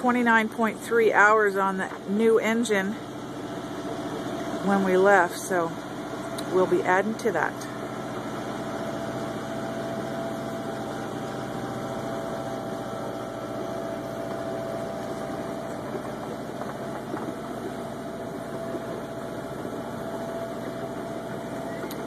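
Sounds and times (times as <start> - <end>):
marine diesel engine droning: 0.0 - 22.0.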